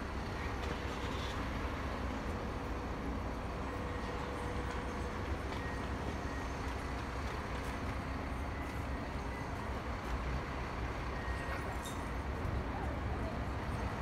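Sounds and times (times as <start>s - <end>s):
low rumble of road traffic: 0.0s - 14.0s.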